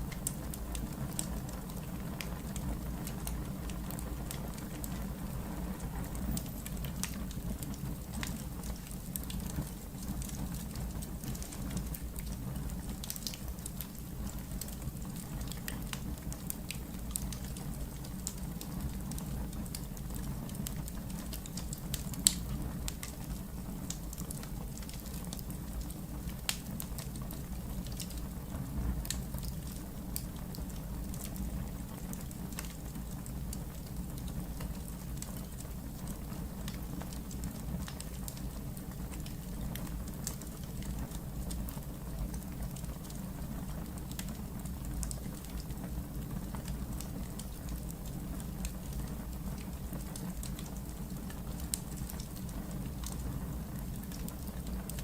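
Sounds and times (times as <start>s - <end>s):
fire rumbling: 0.0s - 55.0s
logs crackling and popping: 0.0s - 55.0s.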